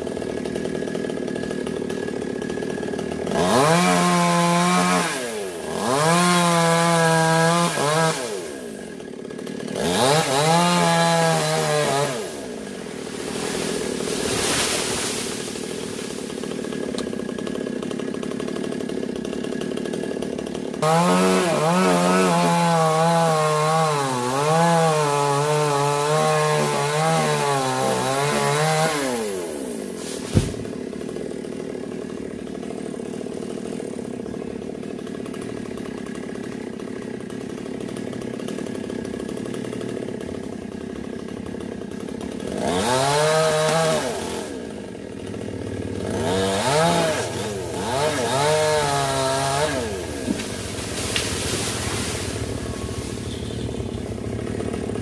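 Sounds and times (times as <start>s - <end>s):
chainsaw cutting wood: 0.0s - 55.0s
chainsaw idling: 0.0s - 55.0s.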